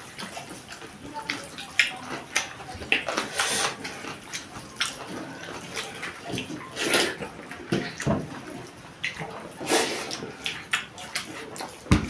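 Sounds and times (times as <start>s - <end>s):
wet chewing and mouth sounds: 0.0s - 12.0s.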